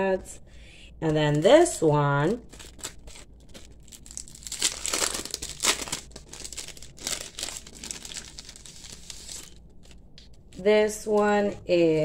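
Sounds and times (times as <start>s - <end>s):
plastic sleeve crinkling: 1.0s - 10.7s.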